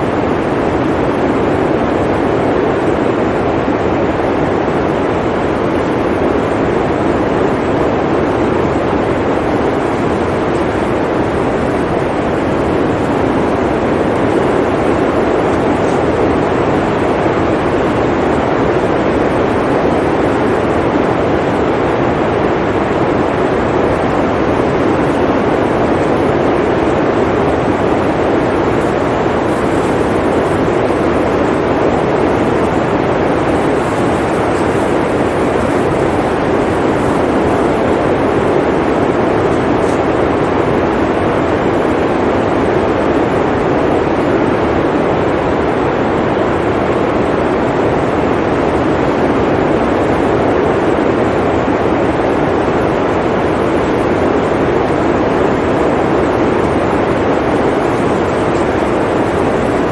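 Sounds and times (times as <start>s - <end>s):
blizzard wind blowing: 0.0s - 59.9s.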